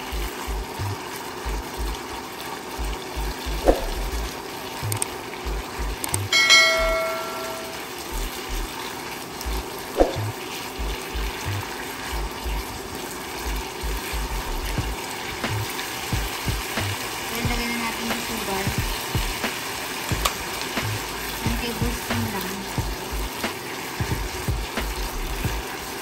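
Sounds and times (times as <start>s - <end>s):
meat and onions sizzling: 0.0s - 26.0s.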